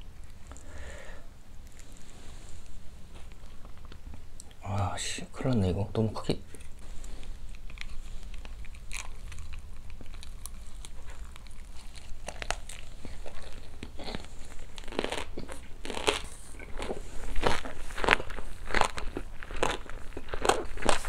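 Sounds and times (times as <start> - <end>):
wet chewing and crunching: 1.5 - 4.6, 6.5 - 21.0.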